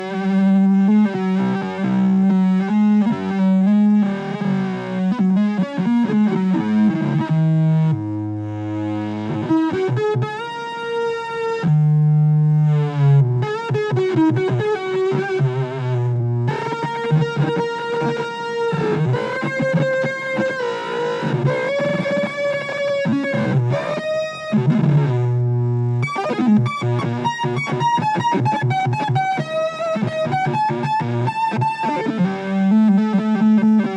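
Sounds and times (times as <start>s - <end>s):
distorted electric guitar: 0.0s - 33.9s.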